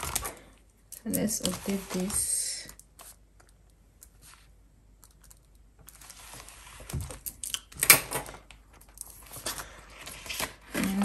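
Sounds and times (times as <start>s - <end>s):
binder pages rustling and clicking: 0.0s - 11.0s.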